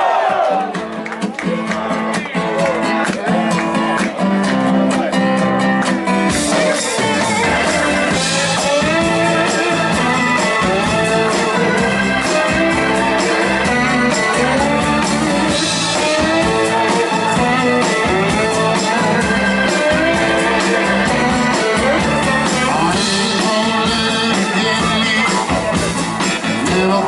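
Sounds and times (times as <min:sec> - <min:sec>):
guitar: 0:00.0 - 0:27.0
blues-rock band playing: 0:00.6 - 0:27.0.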